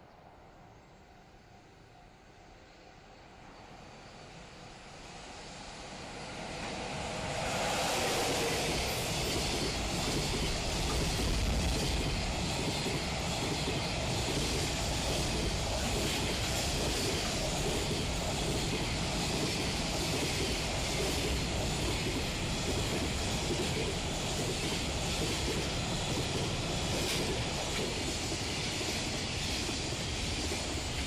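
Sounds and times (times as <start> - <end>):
freight train passing: 0.0 - 31.0.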